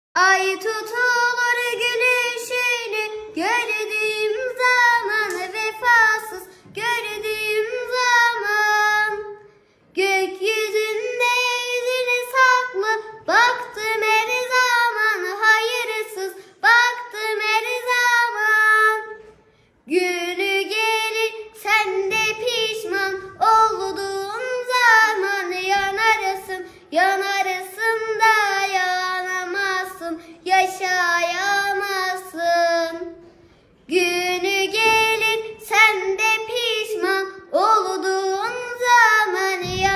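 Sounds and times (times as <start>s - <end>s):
girl singing unaccompanied: 0.2s - 39.9s.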